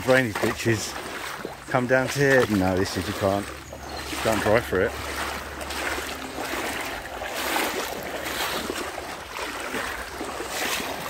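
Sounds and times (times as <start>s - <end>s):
footsteps wading through water: 0.0s - 11.0s
rain falling on water: 0.0s - 11.0s.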